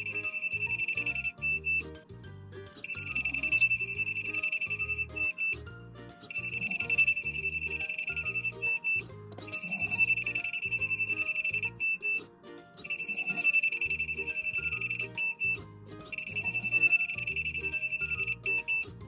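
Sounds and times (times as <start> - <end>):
buzzer short high beeps: 0.0 - 1.9, 2.8 - 5.6, 6.3 - 12.2, 12.8 - 19.0.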